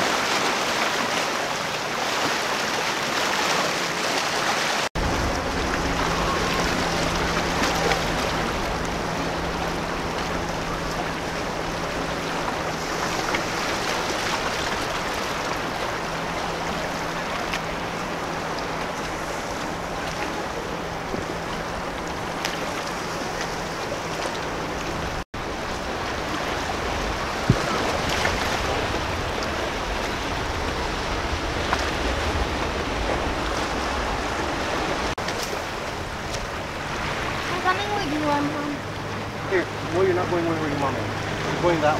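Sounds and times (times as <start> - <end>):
boat engine hum: 0.0 - 41.9
water rushing and lapping: 0.0 - 41.9.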